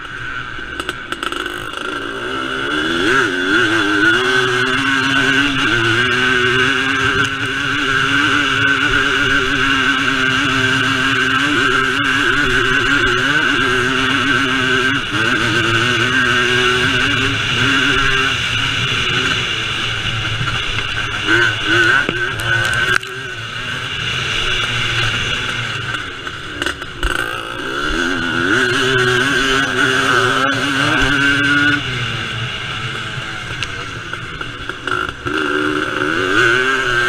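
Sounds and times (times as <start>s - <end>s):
motorcycle engines revving: 0.0s - 37.0s.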